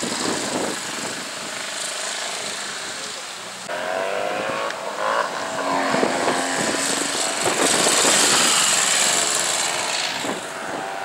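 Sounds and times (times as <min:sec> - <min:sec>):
motorcycle passing by: 0:00.0 - 0:11.0.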